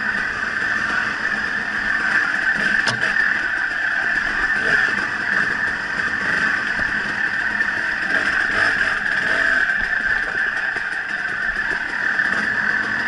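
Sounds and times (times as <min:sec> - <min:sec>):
bike riding on dirt trail: 0:00.0 - 0:13.0.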